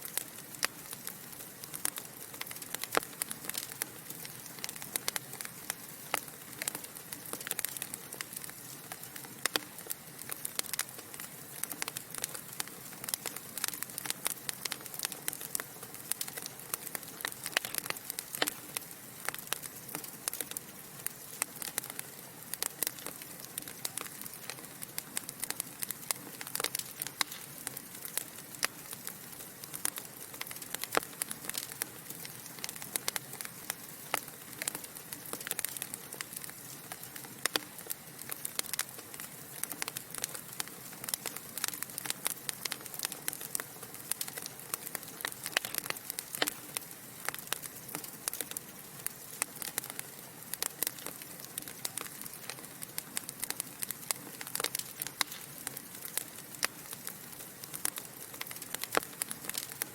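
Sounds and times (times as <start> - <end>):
burning logs hissing: 0.0 - 59.9
wood fire popping and snapping: 0.0 - 59.9.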